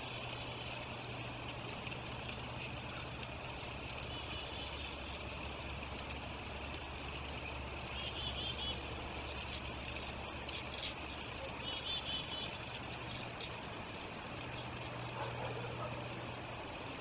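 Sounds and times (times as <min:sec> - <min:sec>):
river water rushing: 0:00.0 - 0:17.0
vehicle engine humming: 0:00.0 - 0:17.0.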